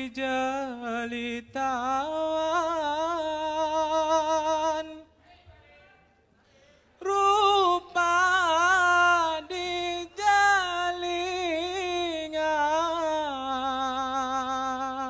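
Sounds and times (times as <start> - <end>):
man singing unaccompanied: 0.0 - 5.1, 7.0 - 15.0.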